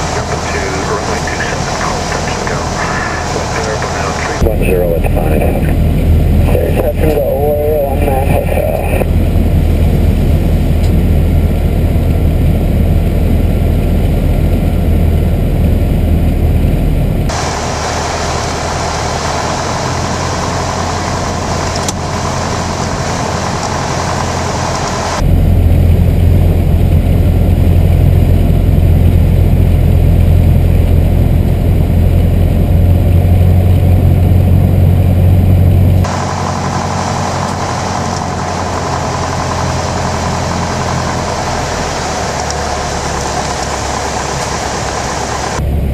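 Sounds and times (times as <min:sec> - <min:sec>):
light aircraft engine droning: 0:00.0 - 0:45.9
propeller and wind hiss: 0:00.0 - 0:45.9.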